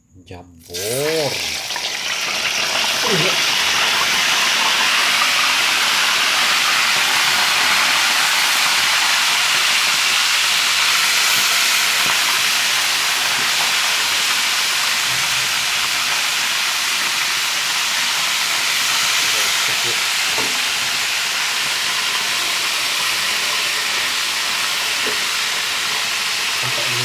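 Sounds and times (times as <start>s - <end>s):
meat sizzling in hot oil: 0.6s - 27.0s.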